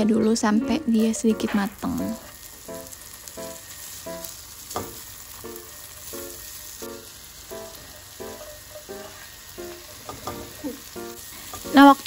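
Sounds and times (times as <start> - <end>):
musical notes: 0.0 - 12.0
meat sizzling in butter: 1.0 - 12.0.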